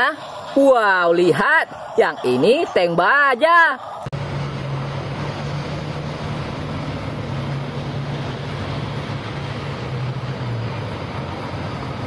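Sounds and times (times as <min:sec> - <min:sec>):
low engine drone: 0:00.0 - 0:12.0
rushing noise: 0:00.0 - 0:12.0.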